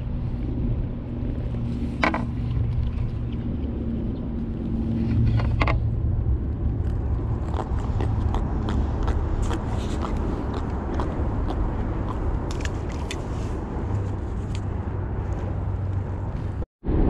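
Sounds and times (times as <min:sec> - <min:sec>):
faint engine hum: 0:00.0 - 0:17.0
road traffic rumble: 0:00.0 - 0:17.0.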